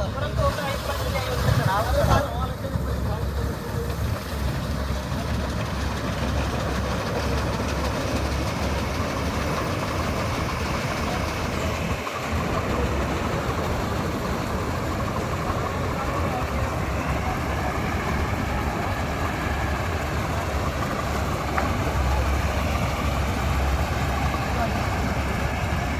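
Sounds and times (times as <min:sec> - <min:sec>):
combine harvester running: 0:00.0 - 0:25.9.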